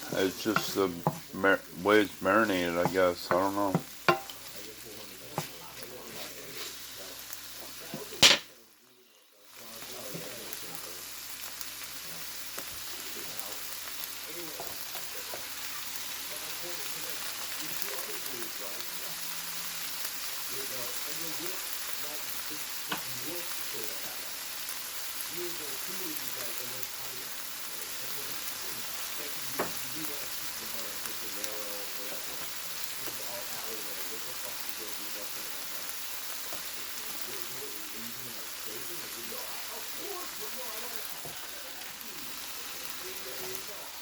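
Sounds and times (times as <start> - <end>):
meat sizzling in a pan: 0.0 - 44.0.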